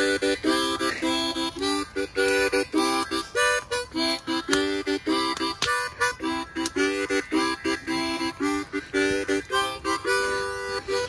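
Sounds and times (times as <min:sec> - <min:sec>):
harmonica chords: 0:00.0 - 0:11.0.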